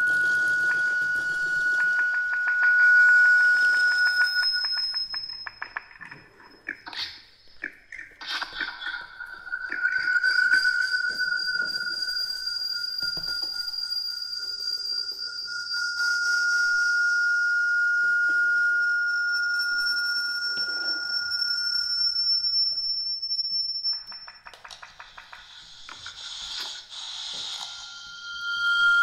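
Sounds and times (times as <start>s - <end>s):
audio feedback whistling tones: 0.0s - 29.0s.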